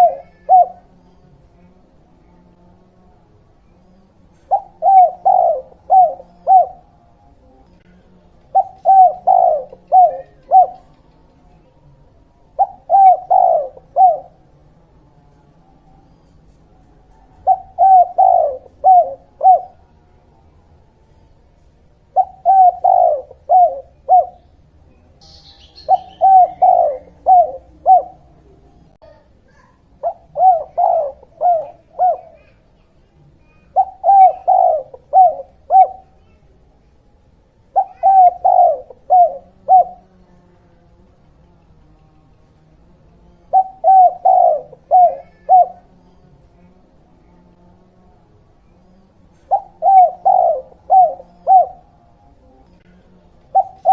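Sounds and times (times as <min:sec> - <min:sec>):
dove cooing: 0:00.0 - 0:02.3, 0:03.6 - 0:14.7, 0:15.5 - 0:40.2, 0:41.1 - 0:47.5, 0:48.6 - 0:53.9.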